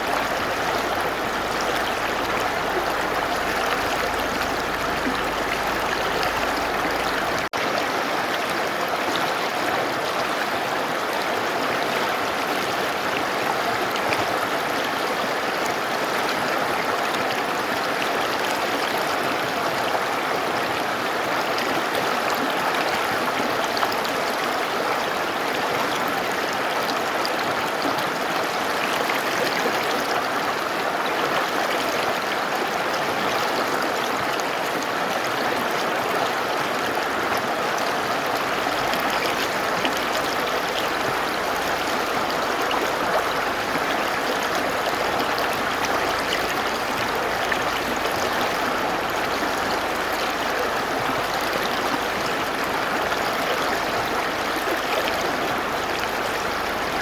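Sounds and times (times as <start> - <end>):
mountain river rushing: 0.0 - 57.0.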